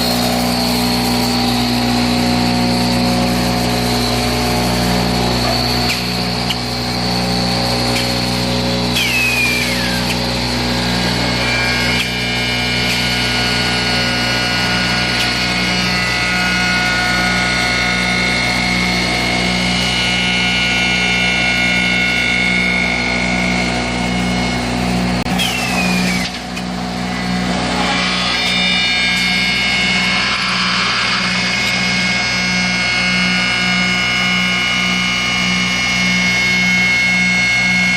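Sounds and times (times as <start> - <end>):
falling whine: 0.0 - 37.9
machine pulsing mechanical hum: 0.0 - 37.9.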